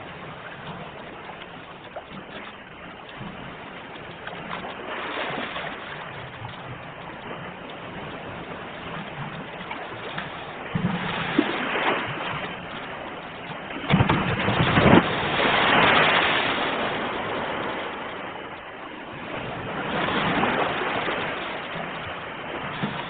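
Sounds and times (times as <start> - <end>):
sea waves washing on shore: 0.0 - 23.0.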